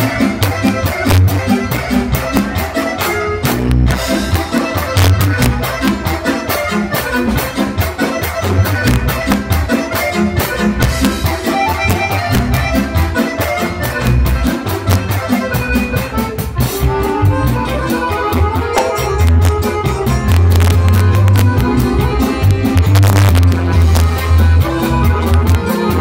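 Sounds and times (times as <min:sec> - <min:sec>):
accordion melody: 0:00.0 - 0:26.0
drum kit beat: 0:00.0 - 0:26.0.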